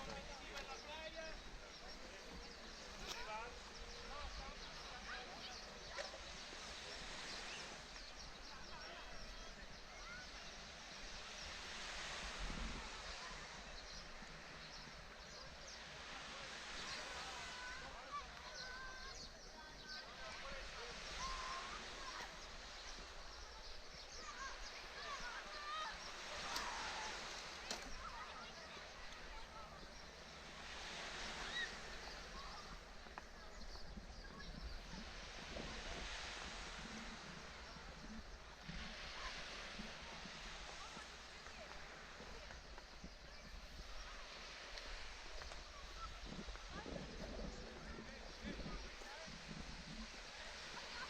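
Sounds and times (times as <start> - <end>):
faint even hiss: 0.0 - 51.0.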